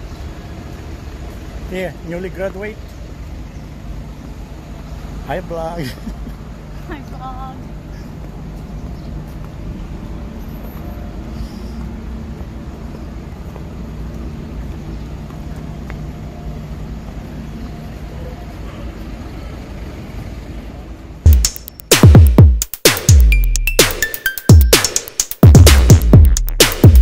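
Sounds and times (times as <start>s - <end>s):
city traffic hum: 0.0s - 27.0s.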